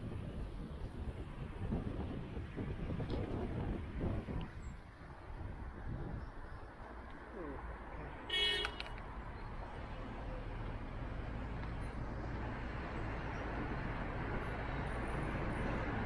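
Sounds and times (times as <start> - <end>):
traffic and road noise: 0.0 - 16.0.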